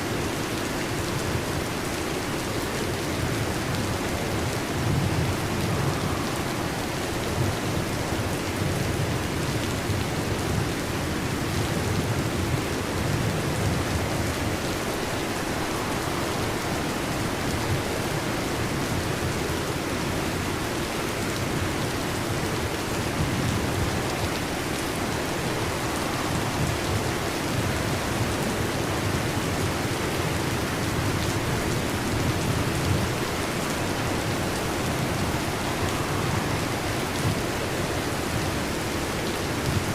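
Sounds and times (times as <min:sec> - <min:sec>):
heavy rain: 0:00.0 - 0:39.9
low rumble of thunder: 0:03.0 - 0:19.9, 0:21.2 - 0:39.9.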